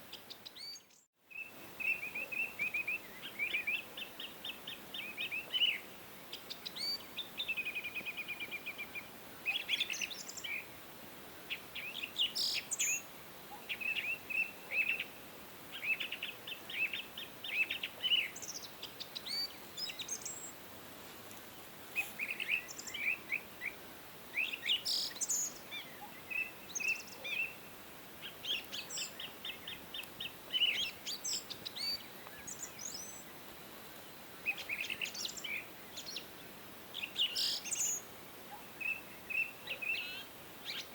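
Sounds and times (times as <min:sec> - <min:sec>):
songbirds singing and chirping: 0:00.0 - 0:20.6, 0:21.3 - 0:40.9
faint steady hiss: 0:00.0 - 0:40.9.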